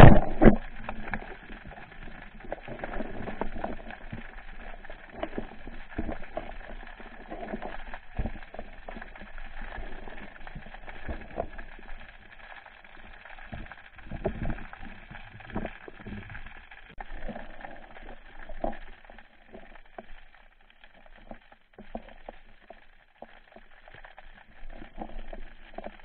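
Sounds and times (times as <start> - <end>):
muffled underwater knocks and clicks: 0.0 - 26.0.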